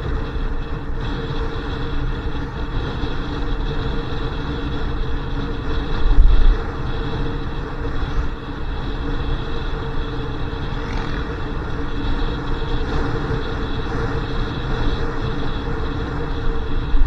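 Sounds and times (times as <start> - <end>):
motorcycle engine running: 0.0 - 17.0
wind on microphone: 0.0 - 17.0.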